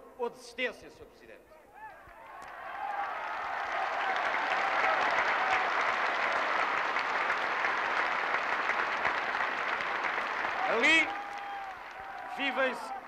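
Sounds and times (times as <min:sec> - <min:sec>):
large crowd applauding: 0:02.2 - 0:13.0.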